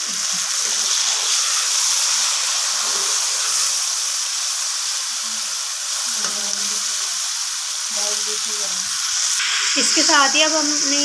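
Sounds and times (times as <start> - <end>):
tomatoes sizzling in a pot: 0.0 - 11.0.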